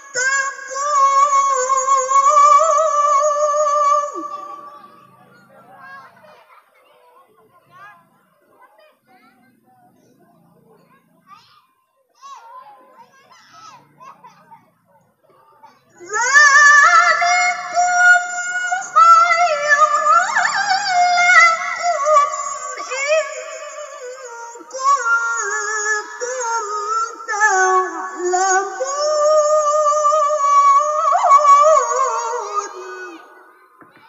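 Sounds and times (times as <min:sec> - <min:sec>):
woman reciting melodically: 0:00.0 - 0:10.2, 0:15.4 - 0:34.0.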